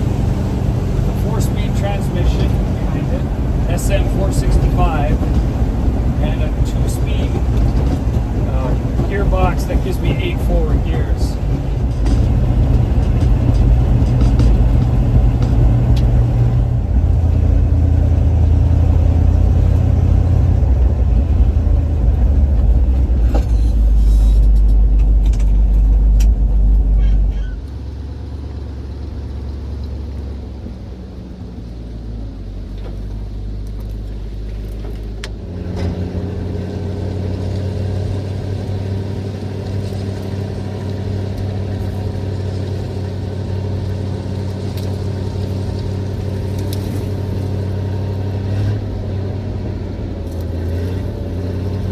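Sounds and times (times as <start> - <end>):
truck engine under load: 0.0 - 51.9.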